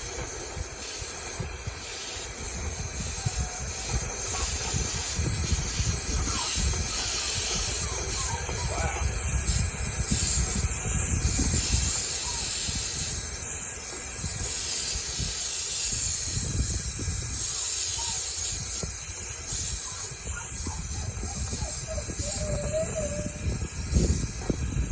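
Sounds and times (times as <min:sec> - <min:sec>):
hissing rush of air: 0:00.0 - 0:24.9.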